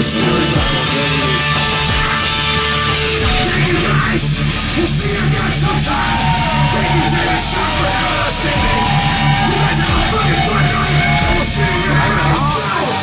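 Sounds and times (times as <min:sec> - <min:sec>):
electric guitar: 0:00.0 - 0:13.0
heavy rock band playing: 0:00.0 - 0:13.0
yelled vocals: 0:00.0 - 0:13.0.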